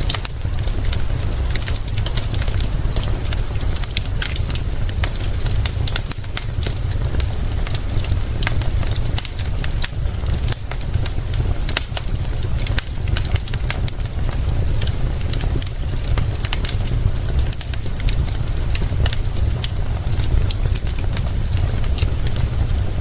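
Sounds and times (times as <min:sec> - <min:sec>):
deep rumble: 0:00.0 - 0:23.0
rain hissing: 0:00.0 - 0:23.0
wood fire crackling: 0:00.0 - 0:23.0.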